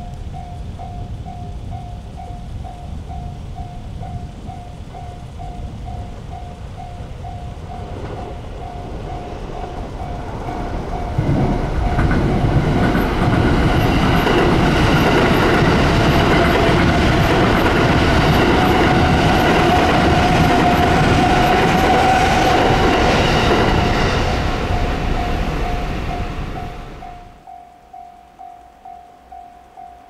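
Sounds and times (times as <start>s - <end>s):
train wheels rumbling on rails: 0.0s - 27.6s
level crossing warning bell: 0.0s - 30.0s.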